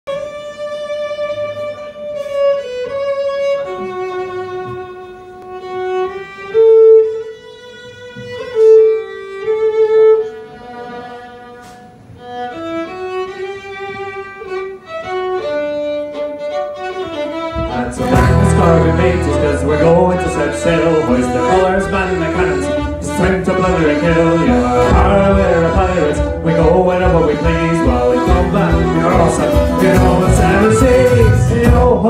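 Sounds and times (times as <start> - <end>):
fiddle playing slow folk melody: 0.1 - 32.0.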